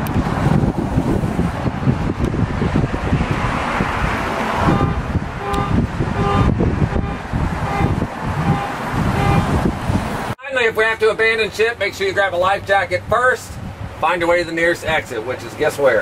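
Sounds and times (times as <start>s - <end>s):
wind buffeting microphone: 0.0s - 10.4s, 12.1s - 15.2s
boat engine rumble: 0.0s - 15.6s.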